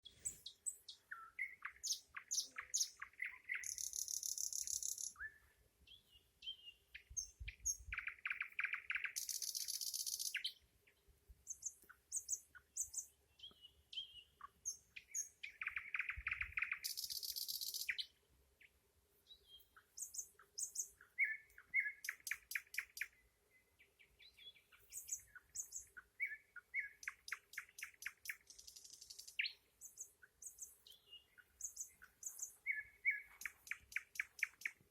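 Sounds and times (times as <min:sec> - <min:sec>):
nightingale singing: 0:00.0 - 0:34.9.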